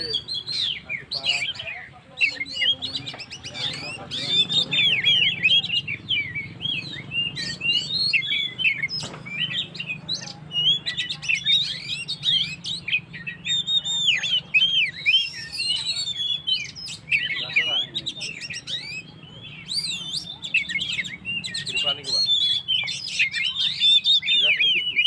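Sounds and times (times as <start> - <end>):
bird singing whistles and chirps: 0.0 - 25.0.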